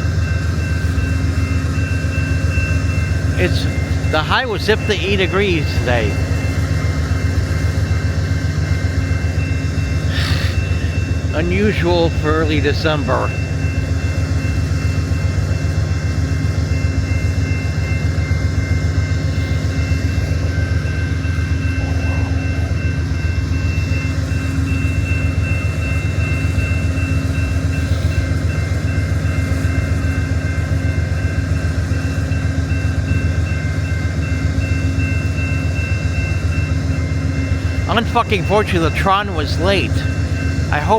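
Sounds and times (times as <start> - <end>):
diesel locomotive engine hum: 0.0 - 40.9.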